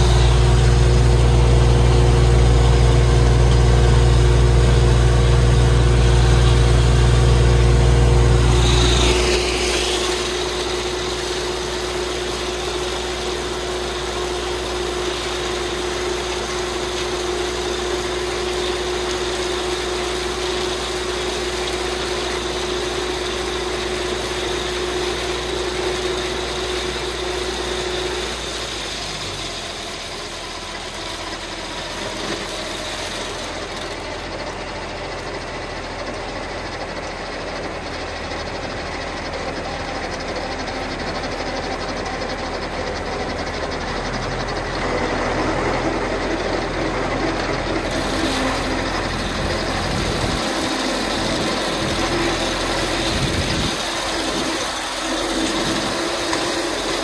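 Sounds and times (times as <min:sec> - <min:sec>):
steady whine: 0:00.0 - 0:28.6, 0:38.7 - 0:57.0
tractor diesel engine running: 0:00.0 - 0:57.0.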